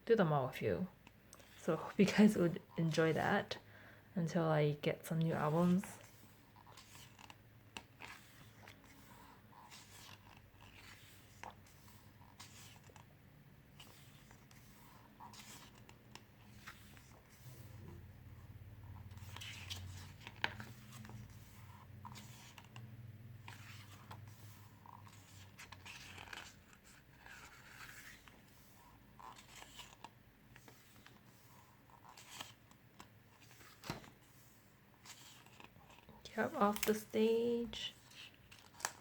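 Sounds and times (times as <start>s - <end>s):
book pages turning: 5.5s - 39.0s.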